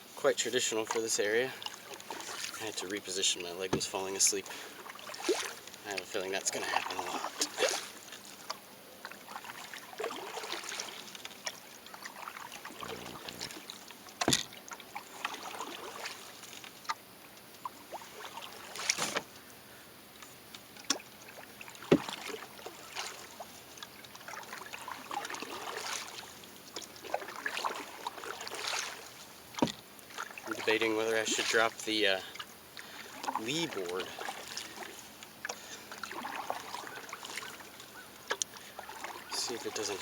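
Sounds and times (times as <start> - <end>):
paddle splashing in water: 0.4 - 19.4, 20.6 - 40.0.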